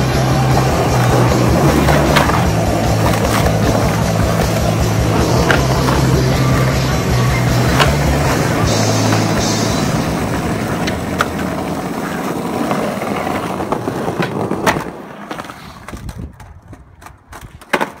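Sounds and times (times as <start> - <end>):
skateboard clacks: 0.0 - 18.0
skateboard wheels rolling on asphalt: 0.0 - 18.0.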